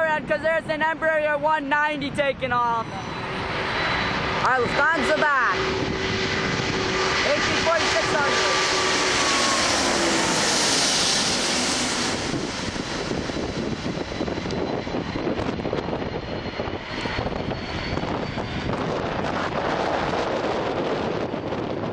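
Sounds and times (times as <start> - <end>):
jet airliner passing: 0.0 - 21.9.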